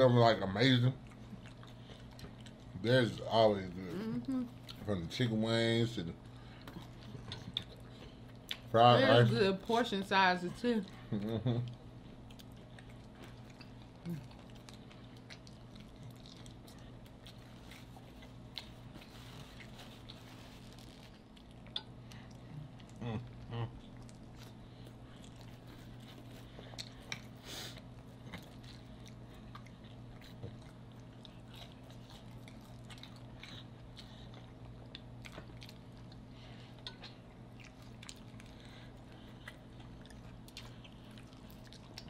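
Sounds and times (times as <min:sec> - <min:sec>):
steady low hum: 0:00.0 - 0:42.0
chewing chicken wings: 0:00.6 - 0:03.5, 0:10.8 - 0:42.0.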